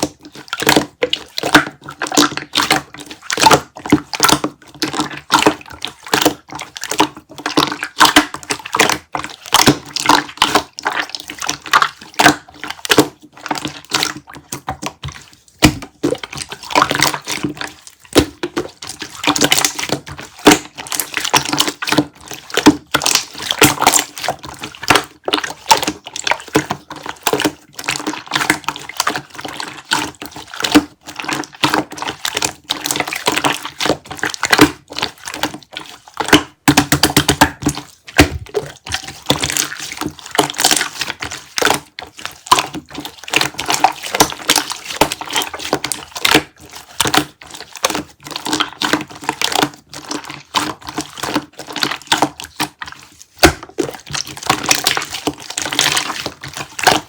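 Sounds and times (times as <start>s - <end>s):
wet clicks and crackles: 0.0s - 57.0s.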